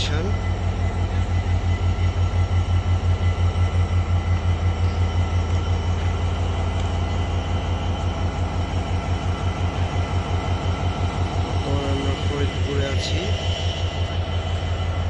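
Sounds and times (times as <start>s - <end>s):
diesel engine throbbing: 0.0s - 15.0s
thin steady whine: 0.0s - 15.0s.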